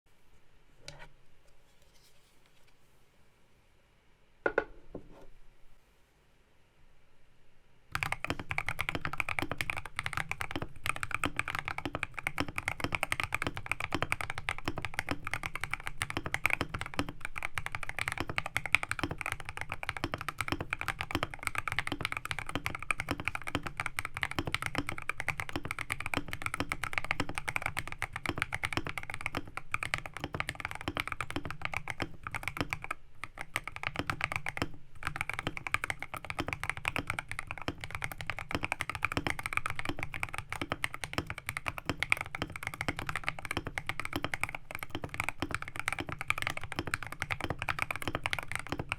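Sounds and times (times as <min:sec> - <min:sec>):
fast mechanical keyboard typing: 0:07.9 - 0:48.9.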